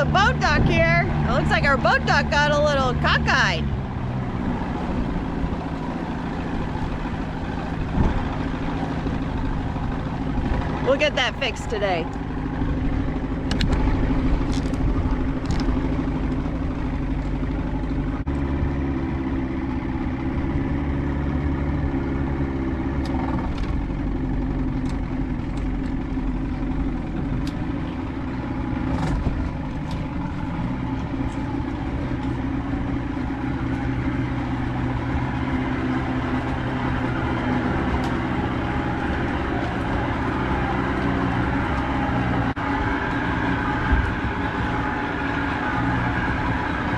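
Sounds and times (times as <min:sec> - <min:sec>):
boat motor running: 0:00.0 - 0:46.9.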